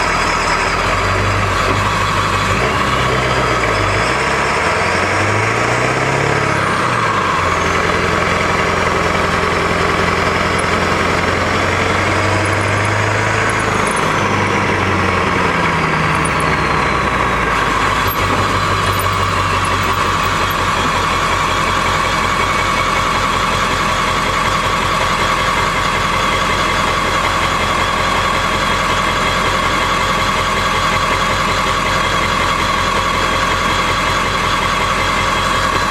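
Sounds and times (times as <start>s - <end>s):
diesel truck engine: 0.0s - 35.9s.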